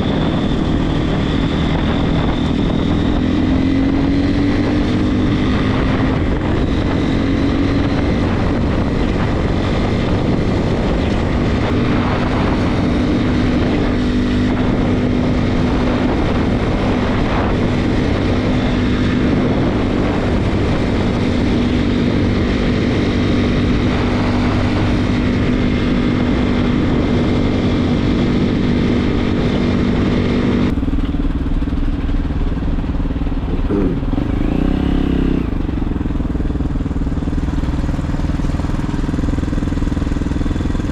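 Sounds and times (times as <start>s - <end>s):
motorcycle engine: 0.0s - 40.9s
wind noise: 0.0s - 40.9s.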